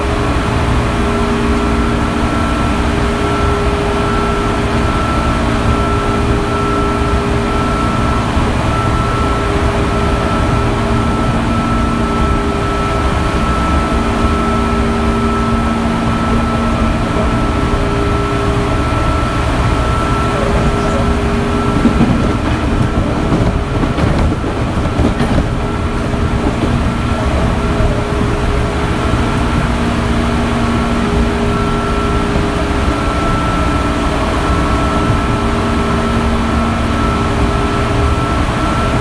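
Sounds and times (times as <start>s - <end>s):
electric train motors humming: 0.0s - 39.0s
wheels rumbling on track: 0.0s - 39.0s.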